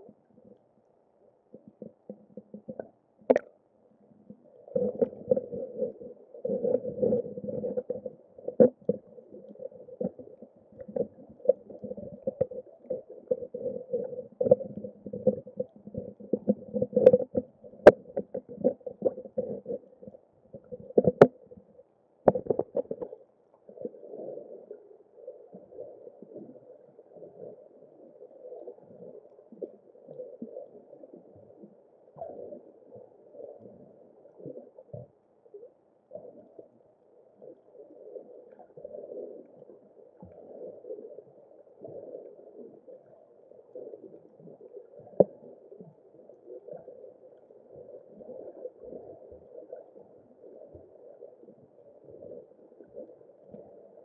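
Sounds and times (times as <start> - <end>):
muffled underwater water sloshing: 0.0 - 54.0.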